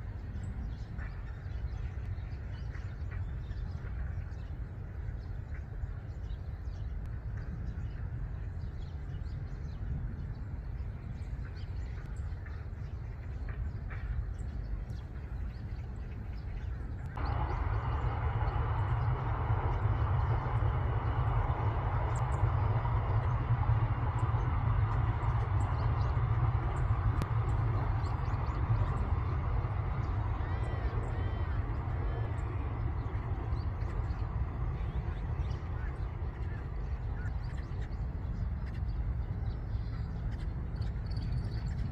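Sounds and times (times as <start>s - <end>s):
low rumble: 0.0s - 41.9s
sparrows chirping: 0.3s - 41.9s.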